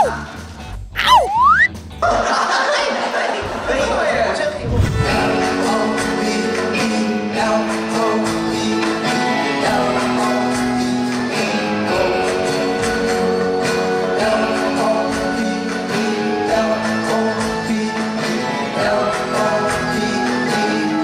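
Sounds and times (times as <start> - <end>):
acoustic and electric guitars: 3.4 - 21.0
men singing: 3.4 - 21.0.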